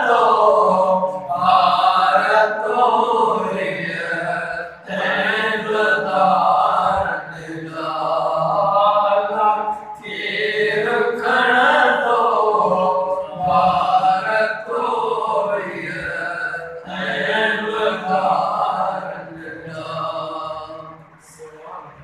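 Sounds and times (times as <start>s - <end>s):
man chanting unaccompanied: 0.0s - 22.0s.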